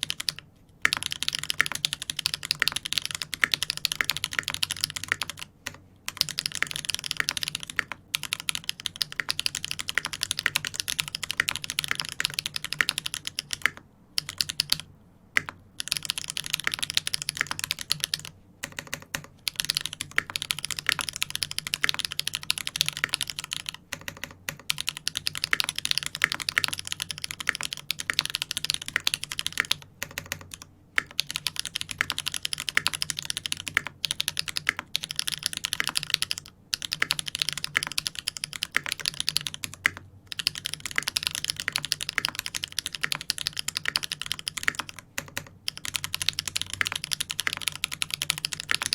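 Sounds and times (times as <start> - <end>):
fast typing on mechanical keyboard: 0.0 - 48.9.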